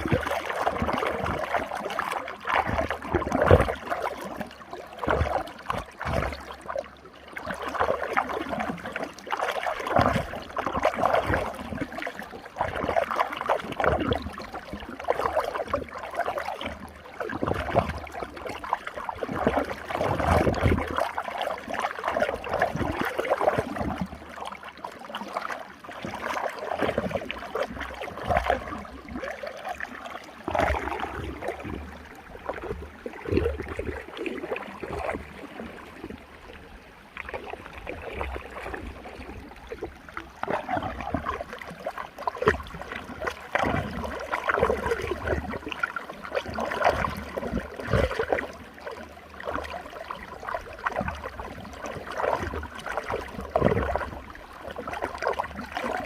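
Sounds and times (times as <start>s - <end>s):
water swirling in a whirlpool: 0.0s - 56.0s.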